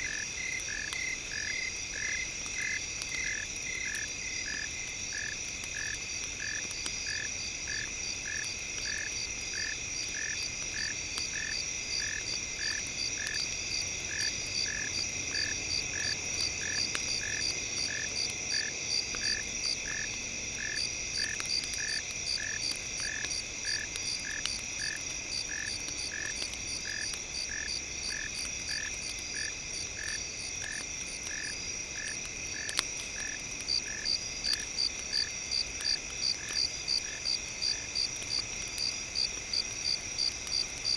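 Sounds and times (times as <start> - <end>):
campfire crackles: 0.0 - 40.9.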